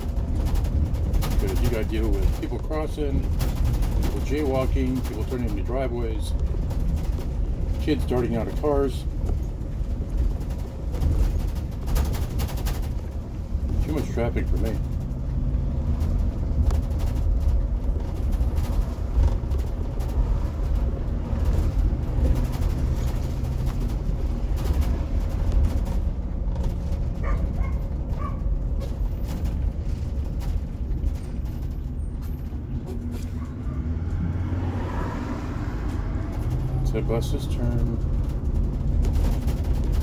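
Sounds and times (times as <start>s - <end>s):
bus body rattles: 0.0s - 40.0s
road and tyre rumble: 0.0s - 40.0s.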